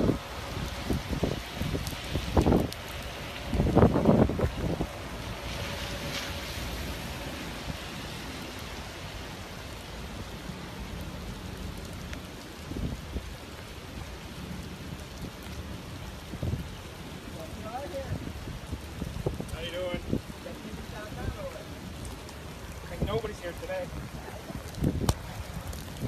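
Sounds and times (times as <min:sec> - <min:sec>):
rain hiss: 0:00.0 - 0:26.0
running floodwater: 0:00.0 - 0:26.0.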